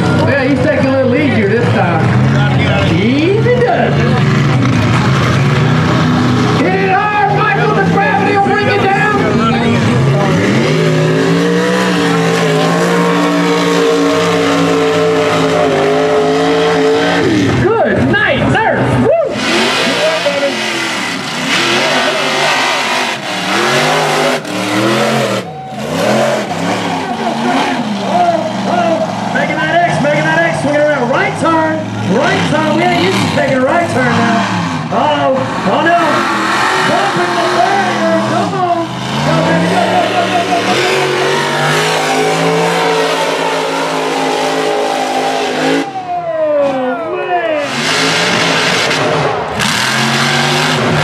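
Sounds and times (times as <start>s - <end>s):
truck engines revving hard: 0.0s - 51.0s.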